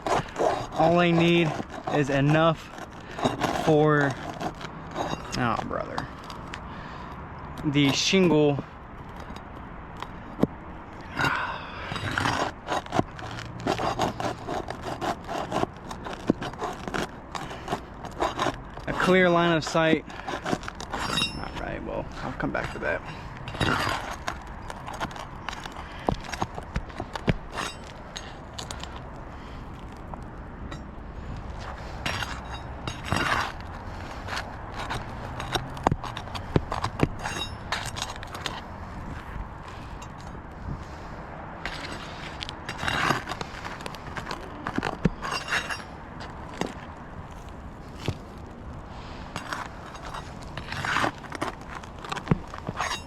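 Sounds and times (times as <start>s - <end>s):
hand tool scraping shingles: 0.0s - 30.0s, 31.5s - 53.0s.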